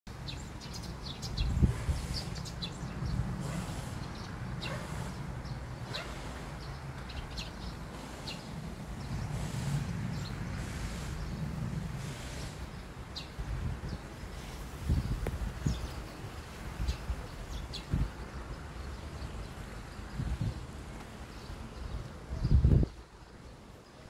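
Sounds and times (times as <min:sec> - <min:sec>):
small birds chirping: 0:00.1 - 0:24.0
wind rumble on microphone: 0:00.1 - 0:24.0.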